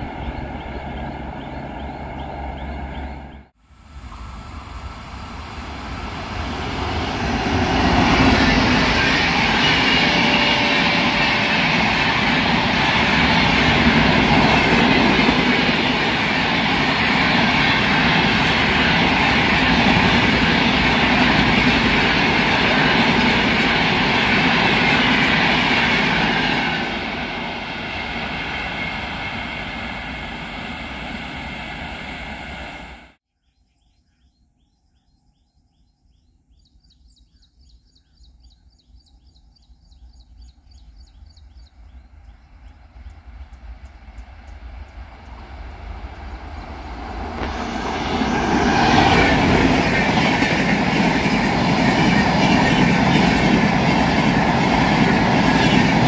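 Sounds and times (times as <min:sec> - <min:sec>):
train passing at speed: 0:00.0 - 0:33.2, 0:40.7 - 0:56.0.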